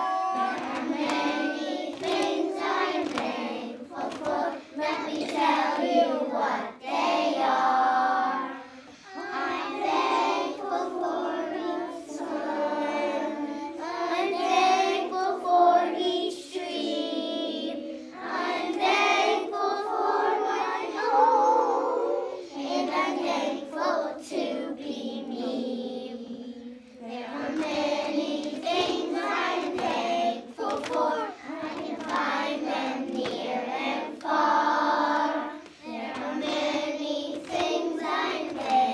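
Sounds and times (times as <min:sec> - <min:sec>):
children singing together: 0:00.0 - 0:38.9.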